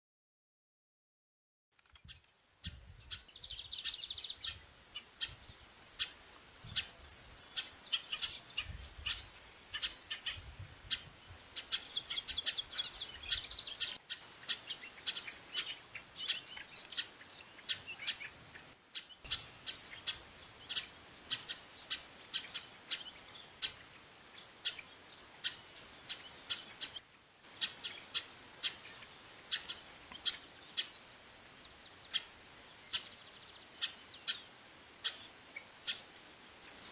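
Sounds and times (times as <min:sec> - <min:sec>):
high insect buzz: 0:02.6 - 0:36.9.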